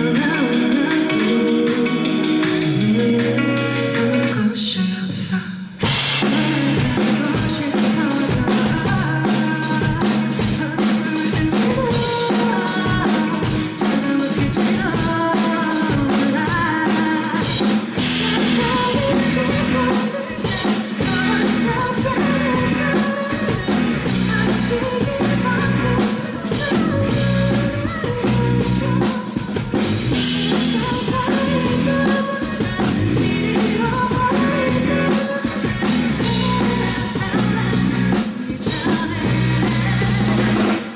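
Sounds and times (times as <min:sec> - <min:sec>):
drum kit fast beat: 0:00.0 - 0:04.5, 0:05.1 - 0:40.9
live rock band playing: 0:00.0 - 0:40.9
person singing: 0:00.0 - 0:40.9.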